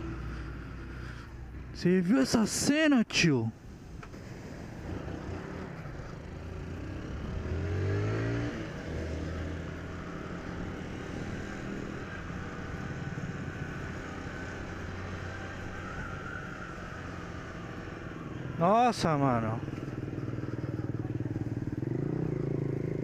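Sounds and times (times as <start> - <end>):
motorcycle engine accelerating: 4.1 - 23.0.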